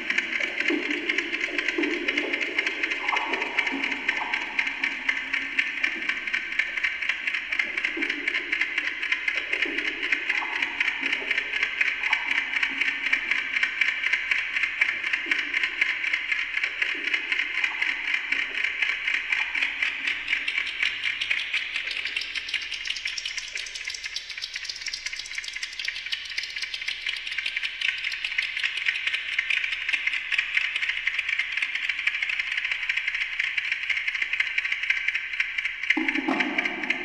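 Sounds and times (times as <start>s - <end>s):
fast clatter of delayed clock ticks: 0.0s - 37.0s.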